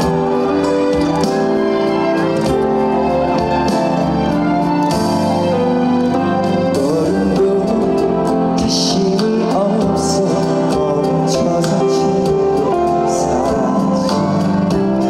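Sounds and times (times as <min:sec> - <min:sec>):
live band music over pa: 0:00.0 - 0:15.0.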